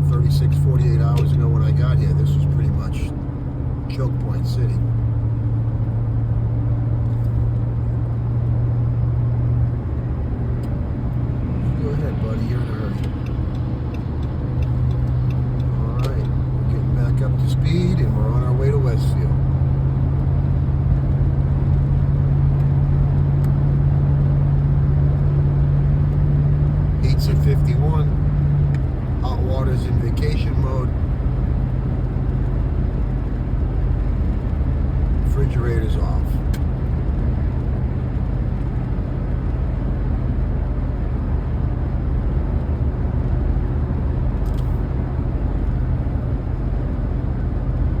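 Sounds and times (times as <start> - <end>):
vehicle cabin road and engine drone: 0.0 - 48.0.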